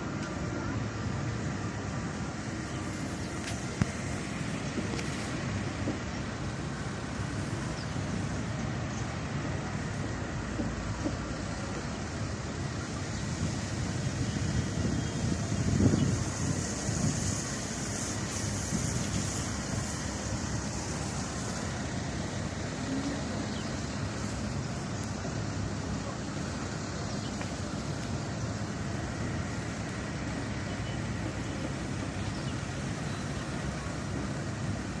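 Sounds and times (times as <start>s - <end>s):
city street traffic rumble: 0.0s - 35.0s.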